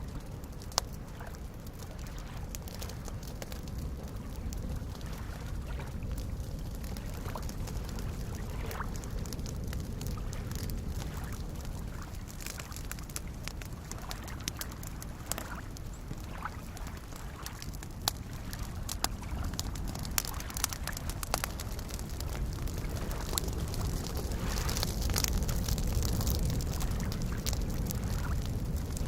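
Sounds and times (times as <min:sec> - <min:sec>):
campfire crackling and popping: 0:00.0 - 0:29.0
lake waves lapping: 0:00.7 - 0:28.5.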